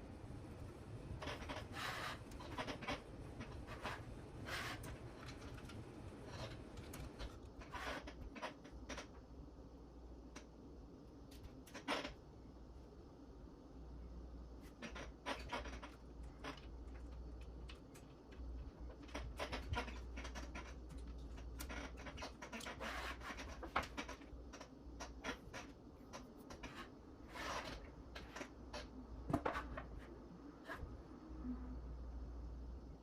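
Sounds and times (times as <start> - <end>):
scratches and rustles of wire: 0.0 - 9.4, 11.2 - 12.3, 14.5 - 31.1.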